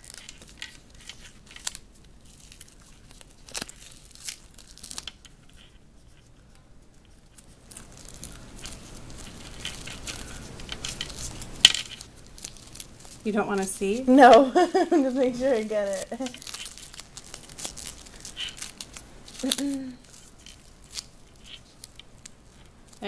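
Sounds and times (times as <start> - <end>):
tape peeling off skin: 0.0 - 23.0.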